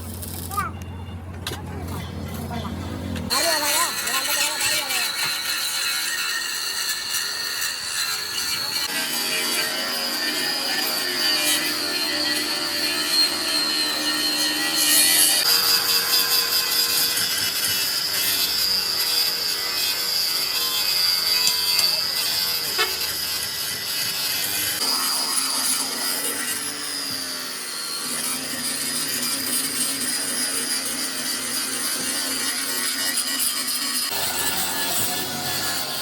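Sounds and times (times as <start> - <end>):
power tool hissing and whining: 3.3 - 36.0.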